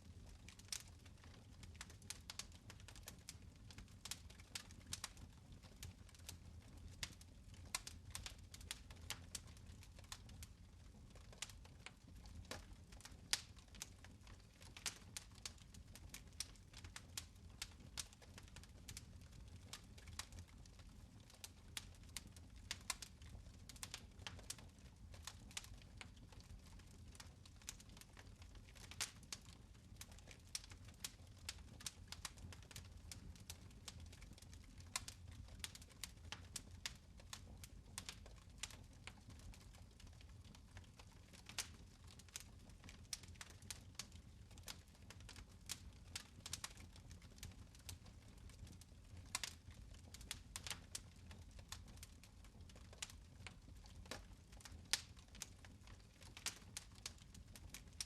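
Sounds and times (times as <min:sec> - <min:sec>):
fire crackling in a fireplace: 0:00.0 - 0:58.0.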